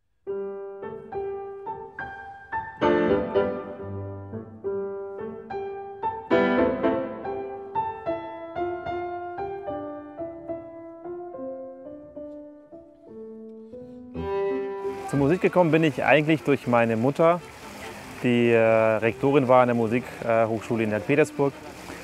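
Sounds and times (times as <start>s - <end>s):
solo piano melody: 0.3s - 22.0s.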